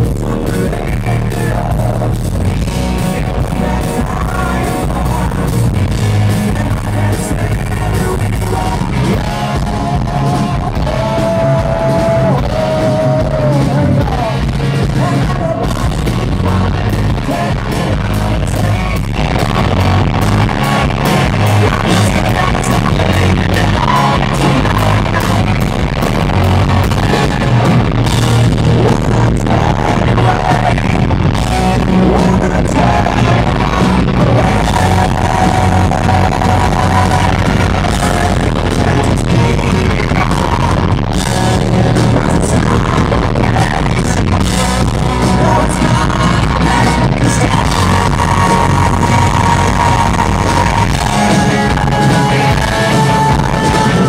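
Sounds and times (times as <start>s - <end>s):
live hard rock band: 0.0s - 54.0s
man singing lead vocals: 0.0s - 54.0s.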